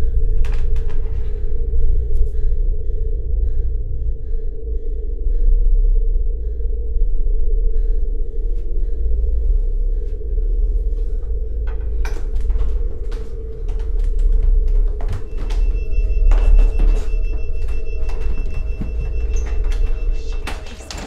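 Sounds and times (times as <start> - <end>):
low steady rumble: 0.0 - 20.5.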